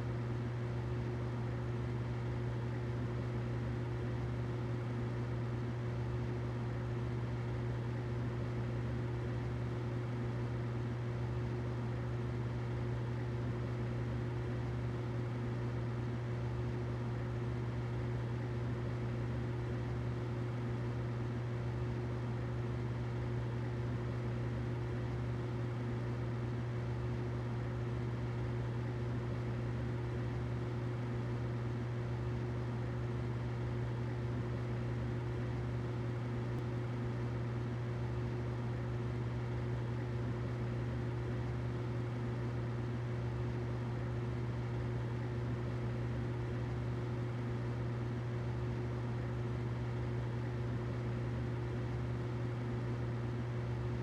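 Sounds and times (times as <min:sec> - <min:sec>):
humidifier humming: 0:00.0 - 0:54.0.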